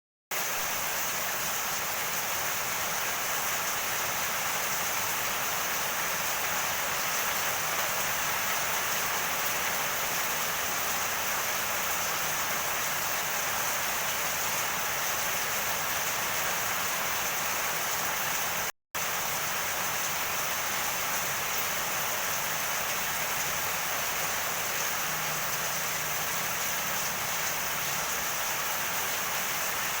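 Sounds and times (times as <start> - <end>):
heavy rain pouring: 0.3 - 30.0.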